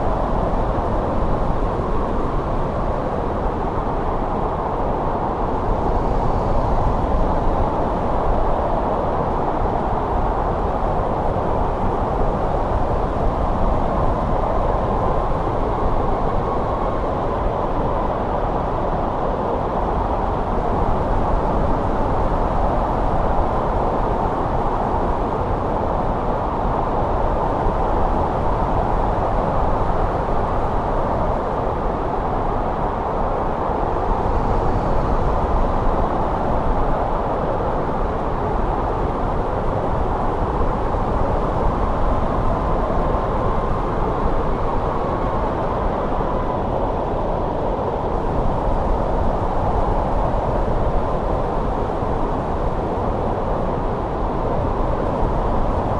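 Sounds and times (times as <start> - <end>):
snowstorm wind blowing: 0.0 - 55.9.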